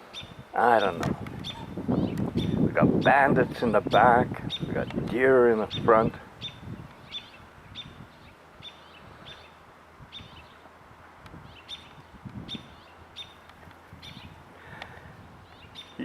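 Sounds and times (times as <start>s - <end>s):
bird chirping: 0.0s - 10.7s, 11.4s - 14.4s, 15.4s - 16.0s.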